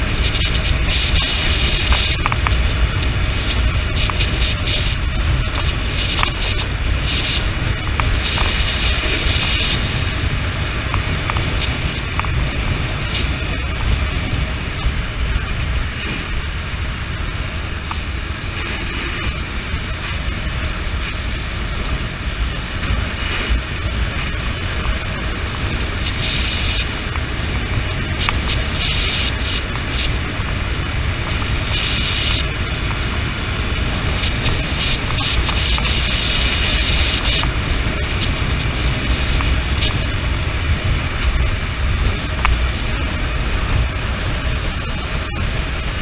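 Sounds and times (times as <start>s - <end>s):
motorcycle engine: 0.0s - 46.0s
wind rumbling on microphone: 0.0s - 46.0s.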